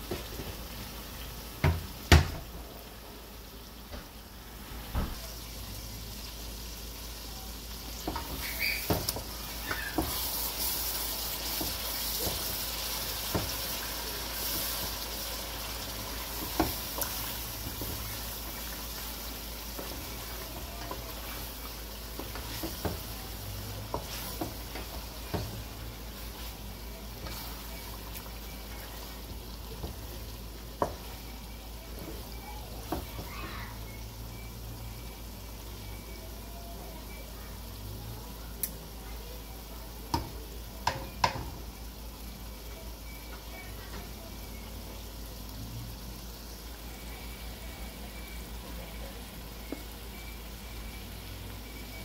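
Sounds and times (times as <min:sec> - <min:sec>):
curry sauce sizzling: 0:00.0 - 0:52.0.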